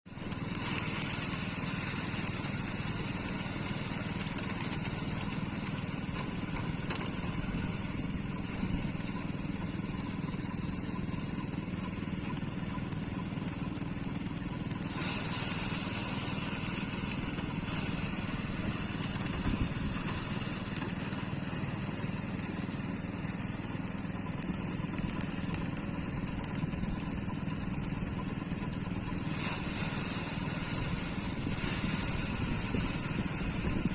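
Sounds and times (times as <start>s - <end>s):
high steady whine: 0.1s - 22.0s, 23.8s - 33.9s
harvester engine low drone: 0.1s - 33.9s.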